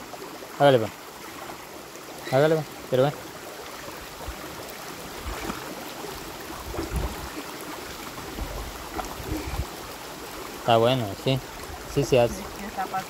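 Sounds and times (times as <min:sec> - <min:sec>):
rocky river flowing: 0:00.0 - 0:13.0.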